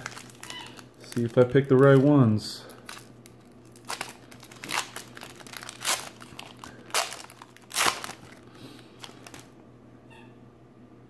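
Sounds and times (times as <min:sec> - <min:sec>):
foil wrapper crinkling and tearing: 0:00.0 - 0:09.5.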